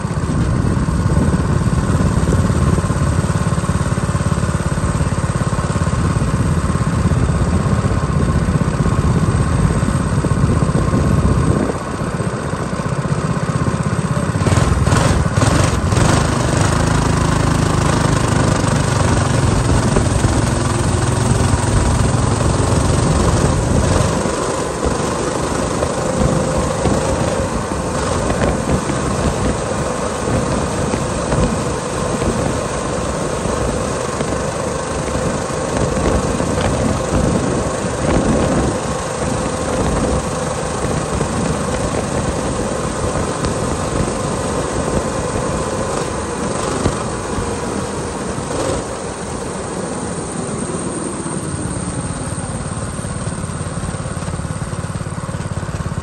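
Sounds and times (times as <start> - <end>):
minibike engine idling: 0.0 - 56.0
riding noise: 0.0 - 56.0.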